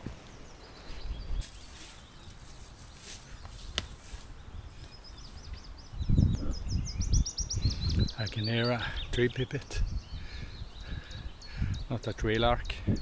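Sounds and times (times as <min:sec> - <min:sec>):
faint songbird calls: 0:00.0 - 0:13.0.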